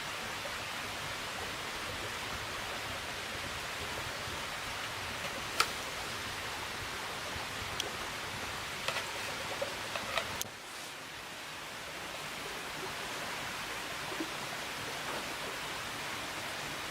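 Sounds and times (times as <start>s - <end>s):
steady rushing hiss: 0.0s - 16.9s.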